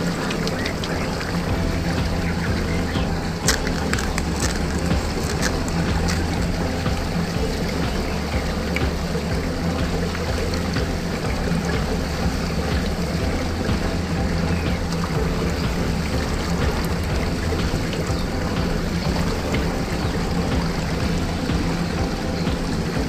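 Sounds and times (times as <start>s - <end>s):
low hum: 0.0s - 23.0s
water rushing down a drain: 0.0s - 23.0s
water splashes: 0.0s - 23.0s.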